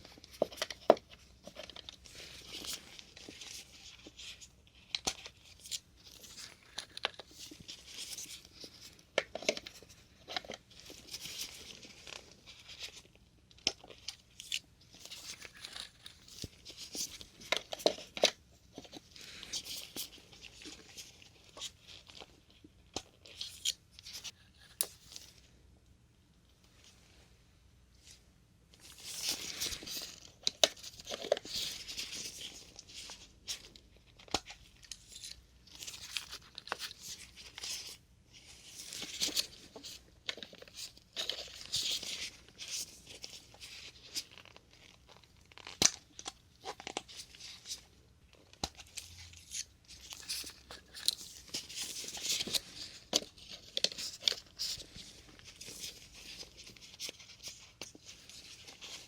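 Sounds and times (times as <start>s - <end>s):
crinkly plastic rustling: 0.0s - 25.6s, 26.5s - 59.0s.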